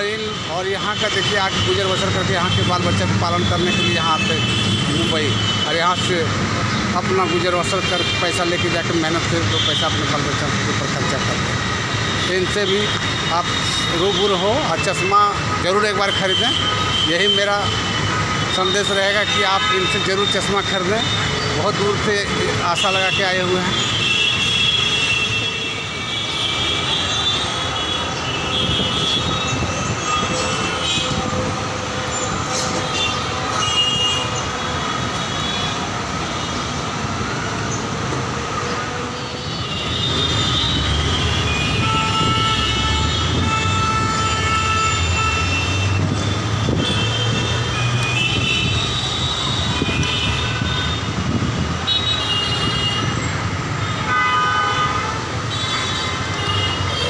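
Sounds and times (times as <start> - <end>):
traffic engines running: 0.0 - 57.0.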